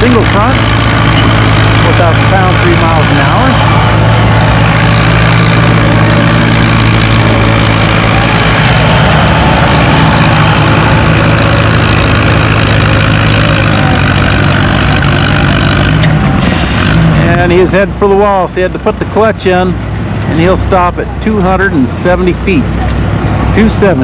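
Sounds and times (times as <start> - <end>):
tractor engine under load: 0.0 - 24.0.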